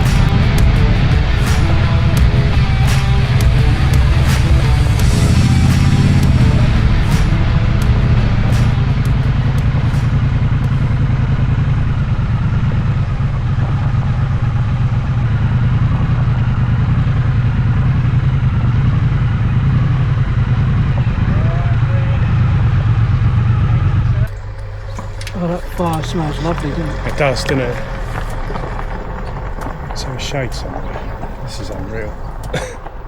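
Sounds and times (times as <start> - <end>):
motorcycle engine running steadily: 0.0 - 33.0.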